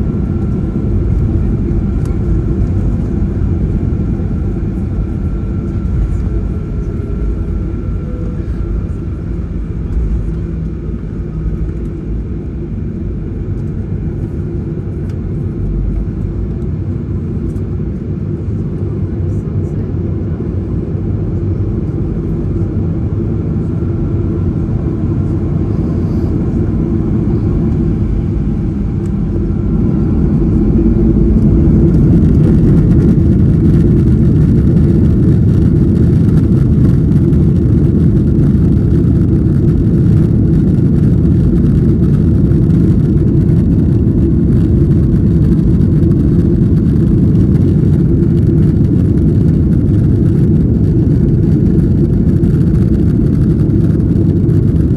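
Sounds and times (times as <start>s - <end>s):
jet airliner cabin rumble: 0.0s - 54.9s.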